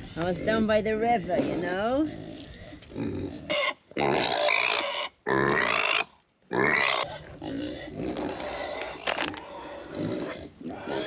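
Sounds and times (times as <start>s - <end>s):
pigs crying for food: 1.5s - 11.0s.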